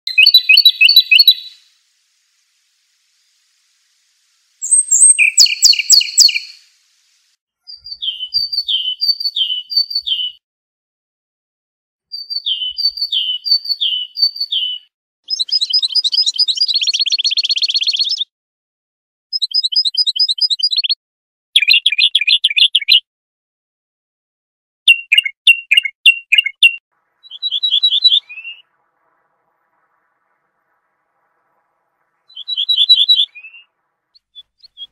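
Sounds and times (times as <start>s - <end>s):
songbird singing: 0.1s - 10.4s, 12.1s - 18.3s, 21.6s - 23.0s, 24.9s - 34.9s.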